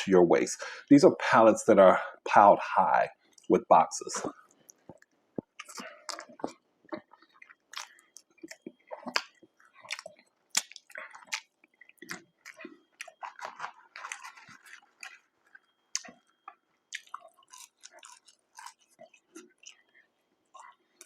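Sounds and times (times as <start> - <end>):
close chewing and mouth sounds: 2.4 - 21.0.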